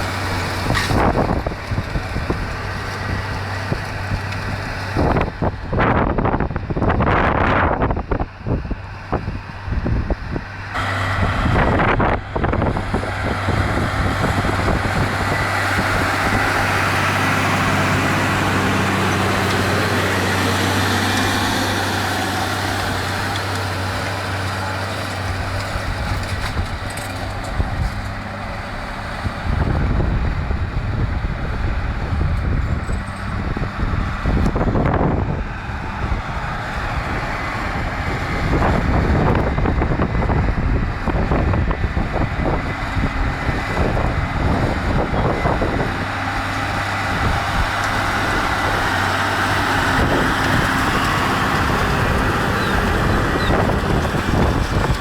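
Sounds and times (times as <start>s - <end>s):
tractor engine running: 0.0s - 55.0s
wind buffeting microphone: 0.0s - 55.0s.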